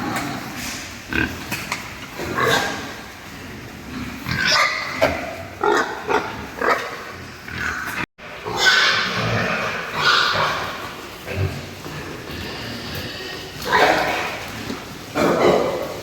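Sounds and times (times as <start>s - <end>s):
young pigs squealing and grunting: 0.0s - 16.0s.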